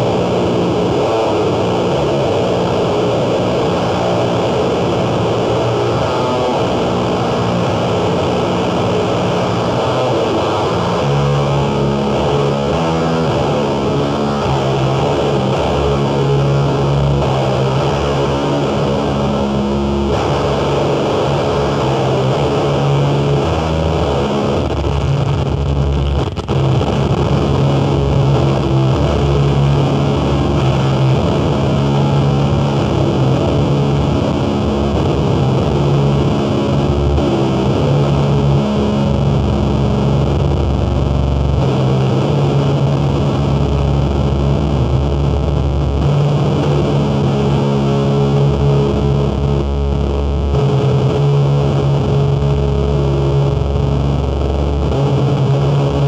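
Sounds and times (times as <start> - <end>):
distorted noise music: 0.0 - 56.0.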